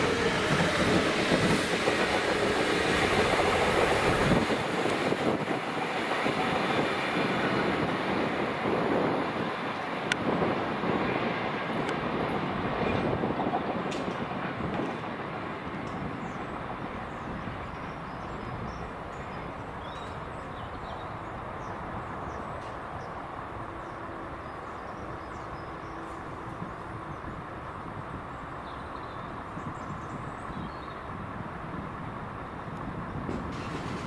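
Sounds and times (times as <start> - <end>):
train engine and wheel rumble: 0.0 - 34.0.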